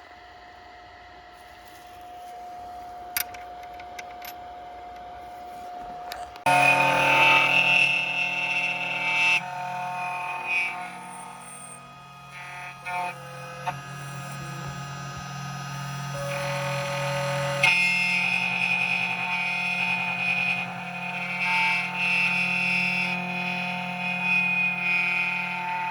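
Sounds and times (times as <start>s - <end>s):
key-cutting machine motor whine: 0.1s - 25.9s.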